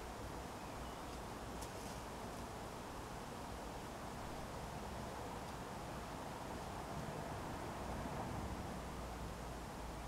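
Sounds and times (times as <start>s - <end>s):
wind rustling leaves: 0.0s - 10.0s.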